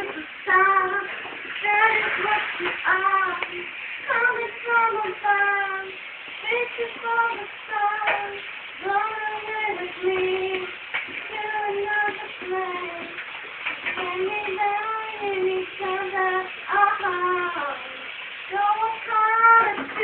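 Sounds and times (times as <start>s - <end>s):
woman singing high melody: 0.0s - 10.7s, 11.3s - 13.2s, 14.0s - 20.0s.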